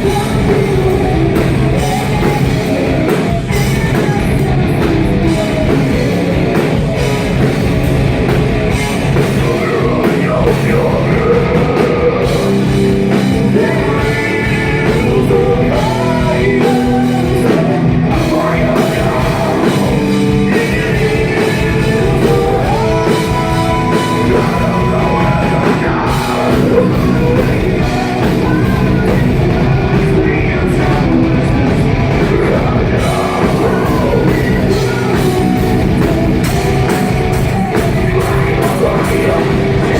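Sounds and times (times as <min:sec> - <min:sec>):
person singing: 0:00.0 - 0:07.6, 0:08.7 - 0:39.9
distorted guitars: 0:00.0 - 0:39.9
drums: 0:00.0 - 0:39.9.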